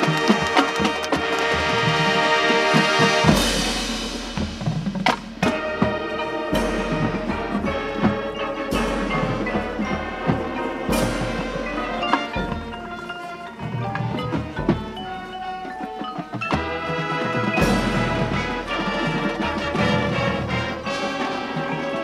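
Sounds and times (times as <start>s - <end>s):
marching band playing: 0.0s - 22.0s
percussion strikes: 0.0s - 22.0s.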